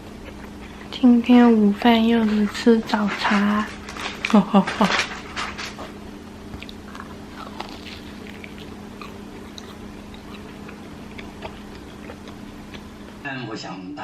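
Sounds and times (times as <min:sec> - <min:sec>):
chewing: 0:00.0 - 0:01.0, 0:01.9 - 0:13.2
low background hum: 0:00.0 - 0:14.0.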